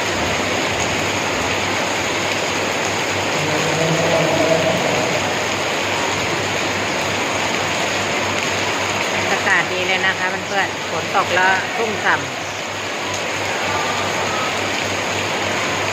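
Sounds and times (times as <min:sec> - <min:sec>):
heavy rain pouring: 0:00.0 - 0:15.9.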